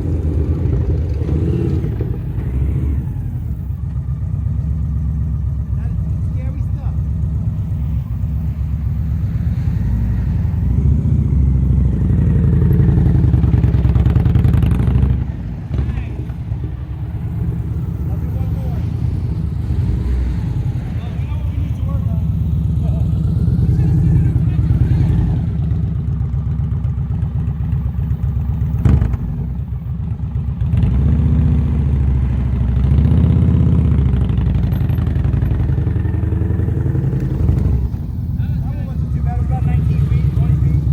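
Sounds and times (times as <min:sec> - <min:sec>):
motorcycle engine pulsing exhaust: 0:00.0 - 0:40.9.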